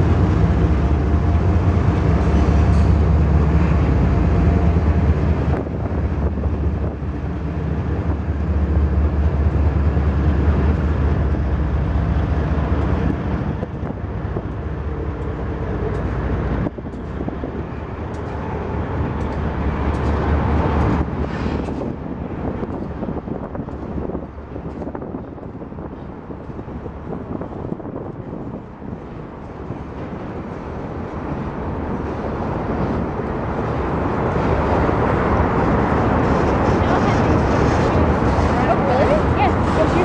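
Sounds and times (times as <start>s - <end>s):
diesel locomotive engines droning: 0.0s - 40.0s
freight cars rolling by: 0.0s - 40.0s.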